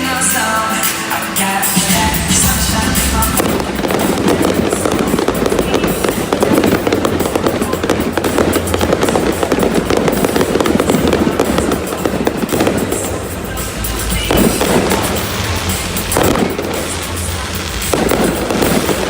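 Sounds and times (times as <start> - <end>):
fireworks bursting and crackling: 0.0 - 19.0
music over sound system: 0.0 - 19.0.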